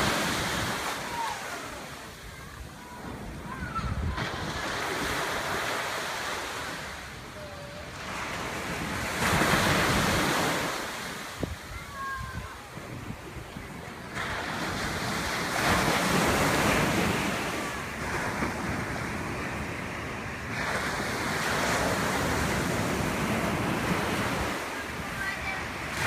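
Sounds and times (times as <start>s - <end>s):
ocean surf breaking: 0.0s - 26.0s
wind buffeting microphone: 2.2s - 5.7s, 6.6s - 26.0s.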